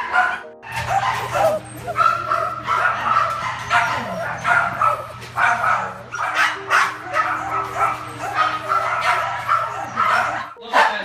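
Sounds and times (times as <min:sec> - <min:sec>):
small dogs barking and yipping: 0:00.0 - 0:11.0.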